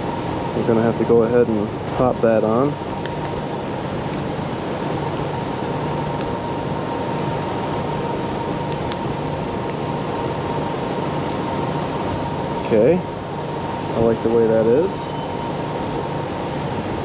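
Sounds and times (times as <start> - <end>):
fan humming and hissing: 0.0 - 17.0
thin steady whine: 0.0 - 17.0.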